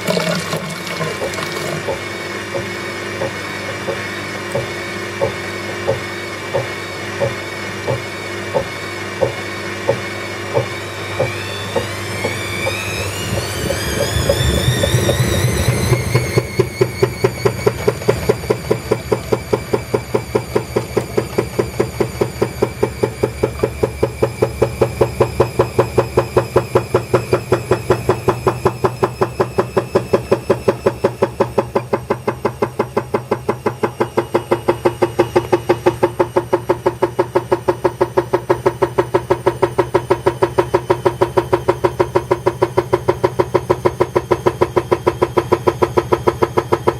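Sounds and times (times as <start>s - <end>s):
washing machine drum turning: 0.0s - 46.9s.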